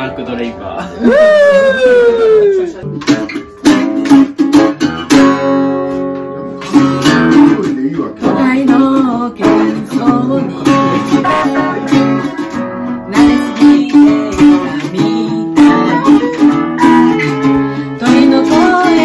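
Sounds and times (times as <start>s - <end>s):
acoustic guitar strumming: 0.0s - 19.0s
electric guitar: 0.0s - 19.0s.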